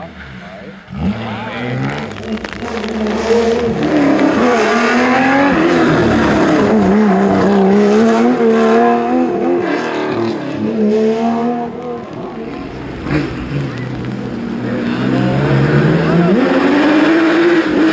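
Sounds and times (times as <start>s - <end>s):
rally car engine revving: 0.0s - 17.9s.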